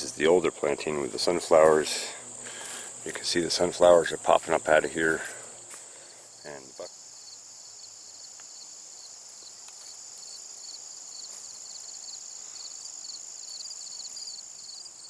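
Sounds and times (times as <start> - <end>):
crickets chirping: 0.0 - 15.0
insects trilling: 0.0 - 15.0.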